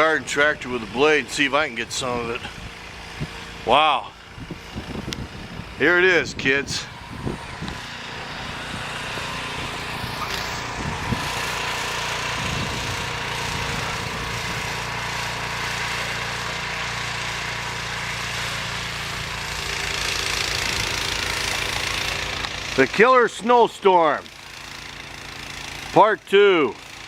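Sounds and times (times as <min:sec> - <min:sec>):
small gasoline engine running: 0:00.0 - 0:27.0.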